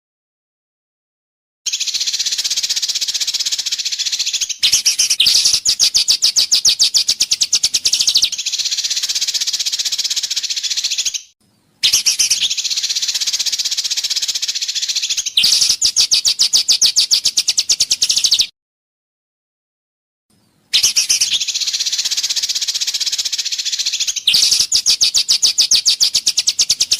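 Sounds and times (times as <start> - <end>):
songbird chattering and trilling: 1.7 - 18.5, 20.4 - 26.9.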